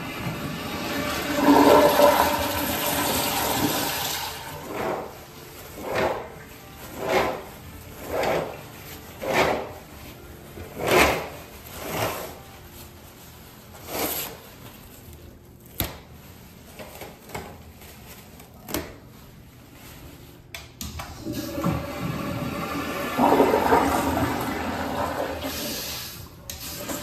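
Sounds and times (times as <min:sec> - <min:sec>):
toilet paper pulled off roll: 0:00.2 - 0:20.4, 0:21.2 - 0:27.0.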